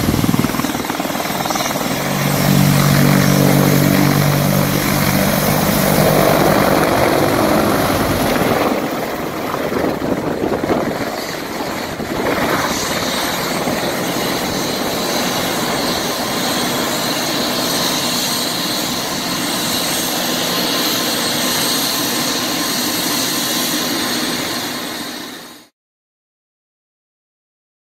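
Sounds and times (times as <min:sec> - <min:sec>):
helicopter rotor and turbine: 0:00.0 - 0:25.7.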